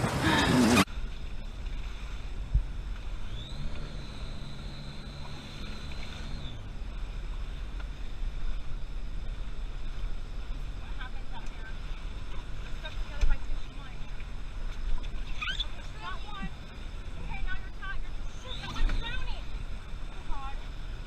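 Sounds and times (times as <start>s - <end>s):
jet boat engine running: 0.0s - 21.0s.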